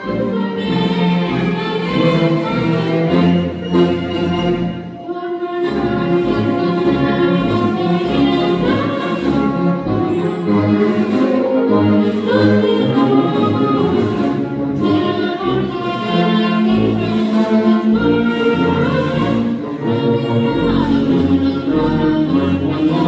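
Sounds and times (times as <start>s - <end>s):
choir singing: 0.0s - 23.0s
orchestra with brass: 0.0s - 23.0s.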